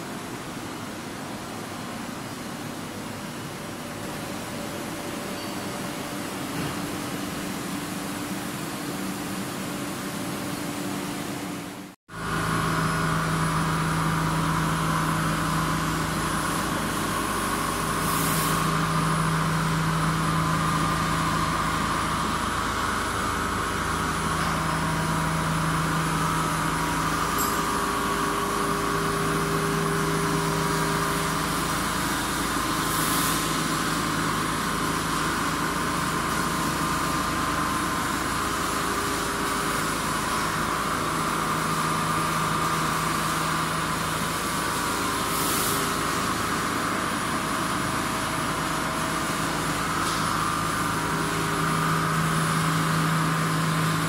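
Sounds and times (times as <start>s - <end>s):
machinery hum: 0.0s - 54.0s.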